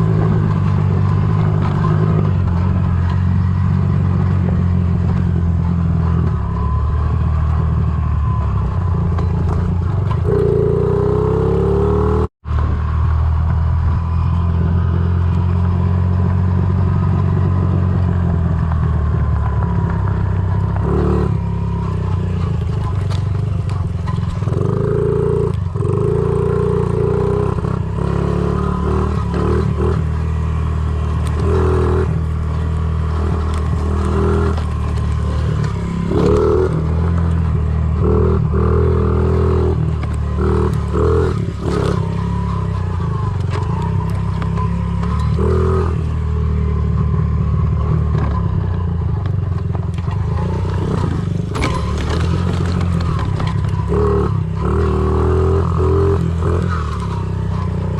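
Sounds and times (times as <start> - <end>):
small motorbike engine revving: 0.0 - 57.9.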